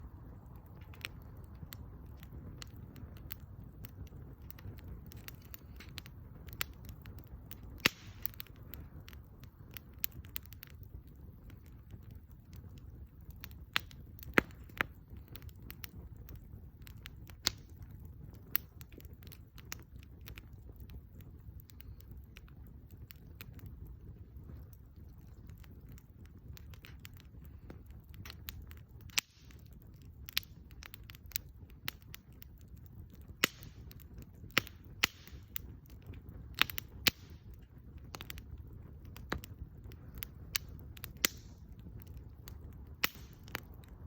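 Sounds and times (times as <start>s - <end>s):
low steady fire rumble: 0.0s - 44.0s
wood fire crackling and popping: 0.0s - 44.0s.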